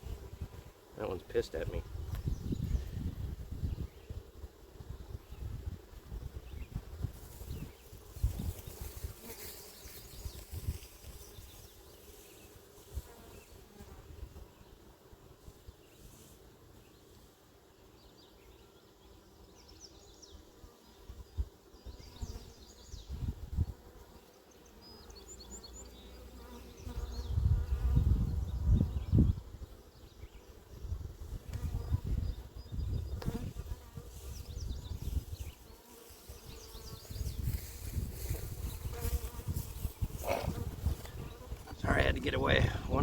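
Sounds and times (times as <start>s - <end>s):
honeybees buzzing: 0.0s - 43.0s.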